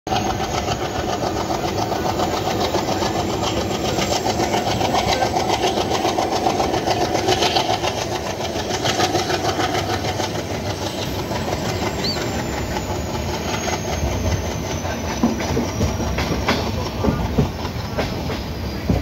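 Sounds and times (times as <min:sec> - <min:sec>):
diesel locomotive engine chugging: 0:00.1 - 0:19.0
train wheels rumbling on track: 0:00.1 - 0:19.0.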